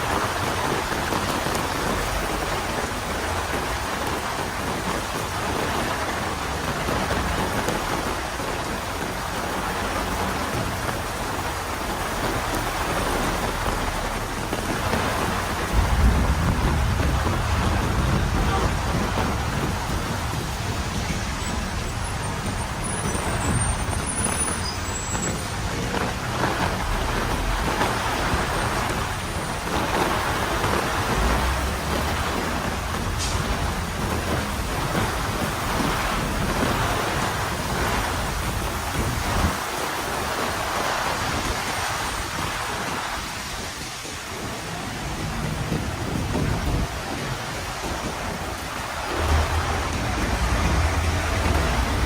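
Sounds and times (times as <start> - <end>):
heavy rain on hard surfaces: 0.0 - 52.0
road traffic rumble: 0.0 - 52.0.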